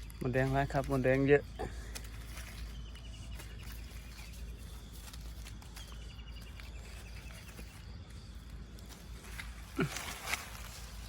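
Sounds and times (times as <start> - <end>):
outdoor ambience: 0.0 - 11.0.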